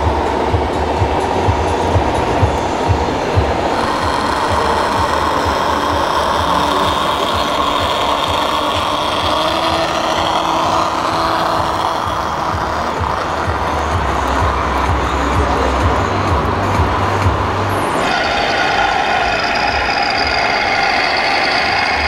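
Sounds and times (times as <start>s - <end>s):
model truck diesel engine sound: 0.0s - 22.0s.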